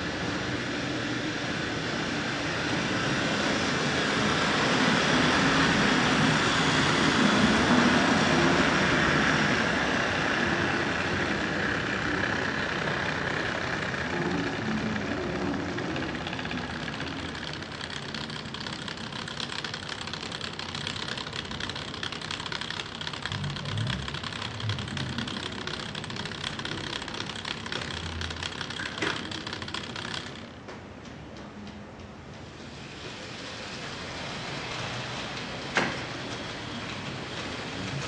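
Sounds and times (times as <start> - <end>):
model train motor and wheels rattling: 0.0 - 38.0.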